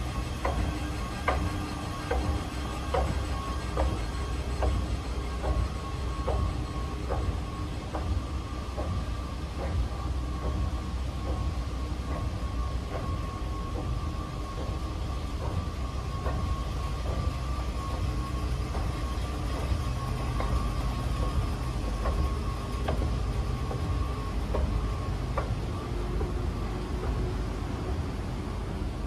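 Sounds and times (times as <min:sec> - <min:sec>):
escalator steps clicking: 0:00.0 - 0:28.5
escalator rumble and hum: 0:00.0 - 0:29.0.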